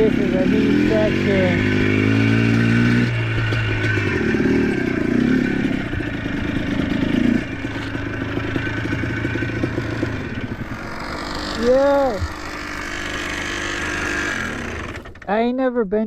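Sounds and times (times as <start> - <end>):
atv engine running: 0.0 - 15.3
rattling and clatter: 0.0 - 15.3.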